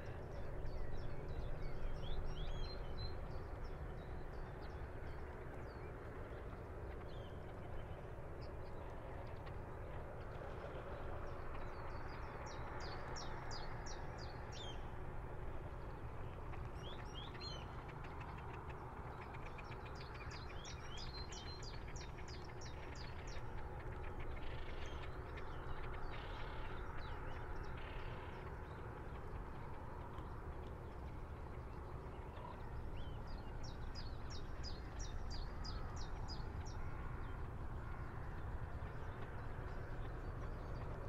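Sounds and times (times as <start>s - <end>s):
faint steady hum: 0.0s - 41.0s
light breeze: 0.0s - 41.0s.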